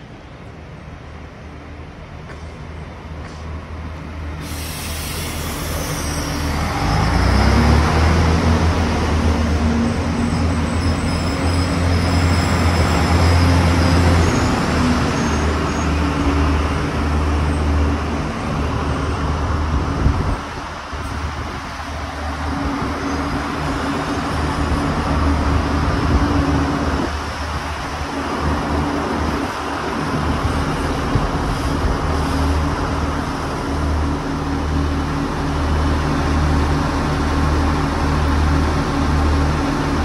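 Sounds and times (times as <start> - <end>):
train engine drone: 0.0 - 40.0
wheels rumbling on rail: 0.0 - 40.0.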